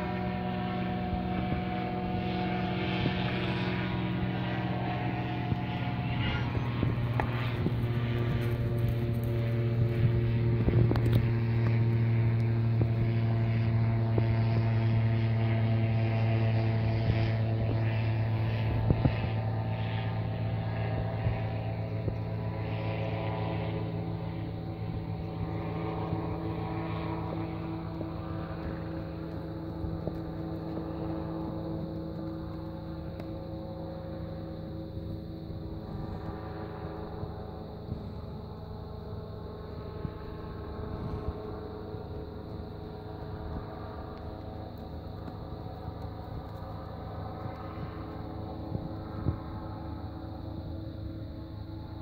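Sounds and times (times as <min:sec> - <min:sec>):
engine droning: 0:00.0 - 0:52.0.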